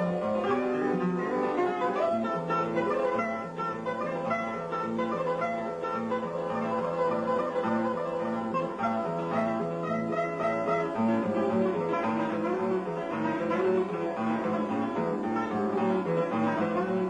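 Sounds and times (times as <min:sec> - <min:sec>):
acoustic guitar duet: 0:00.0 - 0:17.0.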